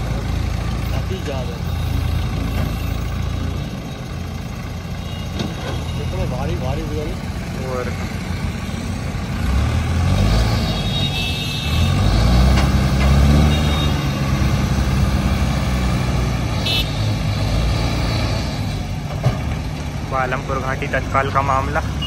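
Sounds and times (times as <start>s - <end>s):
heavy diesel engines under load: 0.0s - 22.0s.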